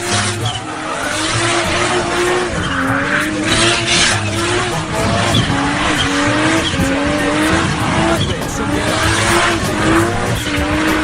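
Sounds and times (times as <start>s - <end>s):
car engine revving high: 0.0s - 11.0s
tyres screeching: 0.0s - 11.0s.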